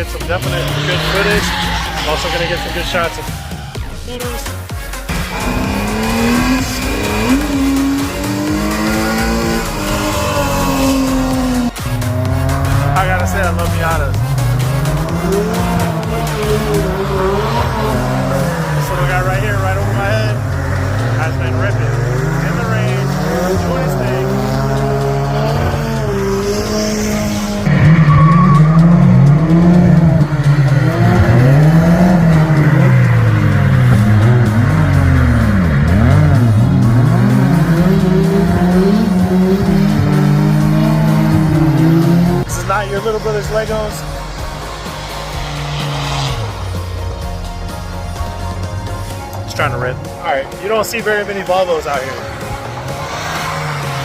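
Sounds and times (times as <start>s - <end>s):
car engine revving high: 0.0s - 51.0s, 51.6s - 54.0s.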